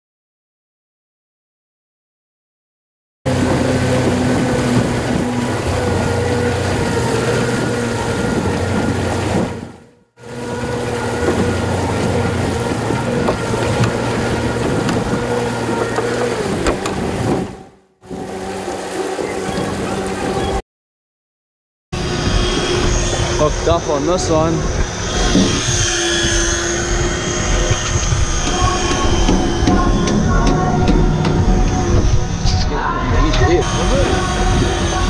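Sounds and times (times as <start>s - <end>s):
outboard motor running: 3.3s - 20.6s, 22.0s - 35.0s
wind and water rushing: 3.3s - 20.6s, 22.0s - 35.0s.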